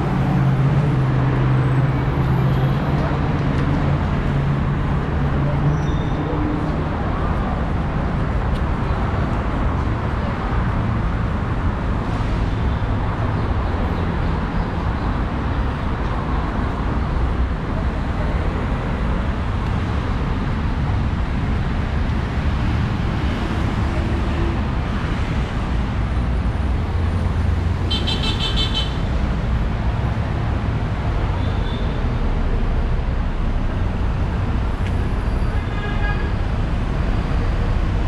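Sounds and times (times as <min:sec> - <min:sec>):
rumble of passing road vehicles: 0:00.0 - 0:38.0.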